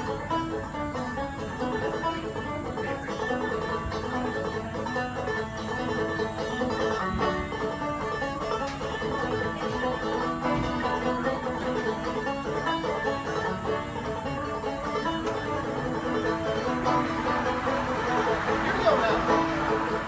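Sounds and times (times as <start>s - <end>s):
banjo picking rapidly: 0.0s - 20.0s
bluegrass music: 0.0s - 20.0s.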